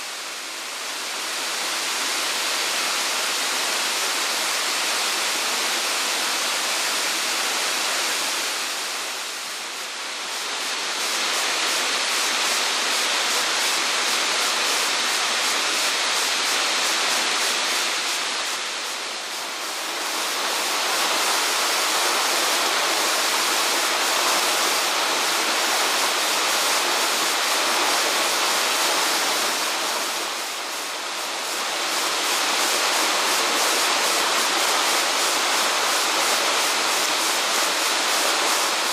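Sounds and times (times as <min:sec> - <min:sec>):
waterfall rushing: 0:00.1 - 0:38.9.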